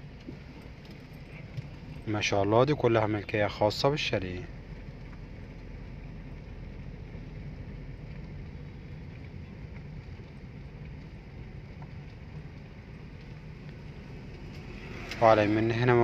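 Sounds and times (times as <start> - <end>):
dull rumble: 0.0 - 16.0.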